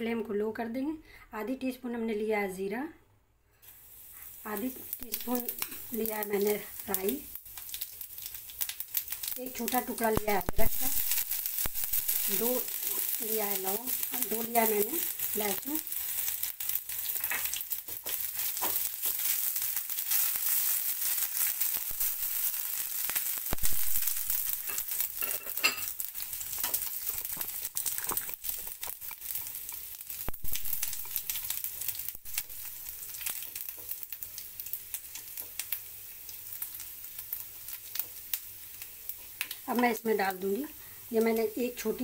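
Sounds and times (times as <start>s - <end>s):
spices sizzling in hot oil: 3.6s - 42.0s.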